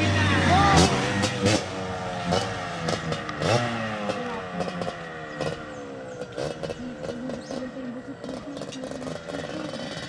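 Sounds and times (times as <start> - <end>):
two-stroke engine revving: 0.0 - 10.0.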